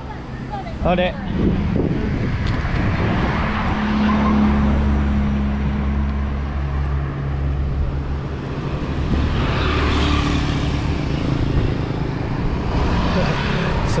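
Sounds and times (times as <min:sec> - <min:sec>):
car engine hum: 0:00.0 - 0:14.0
motorbikes passing: 0:00.0 - 0:14.0
wind and road noise: 0:00.0 - 0:14.0.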